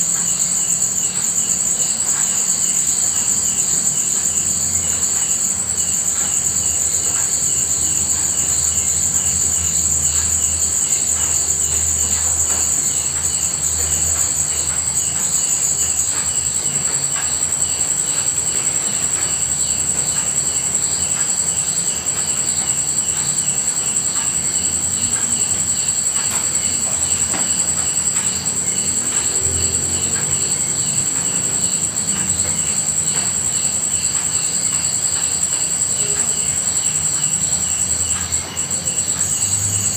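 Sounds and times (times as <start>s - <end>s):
insects buzzing high-pitched: 0.0s - 39.9s
insects pulsing chirps: 0.0s - 39.9s.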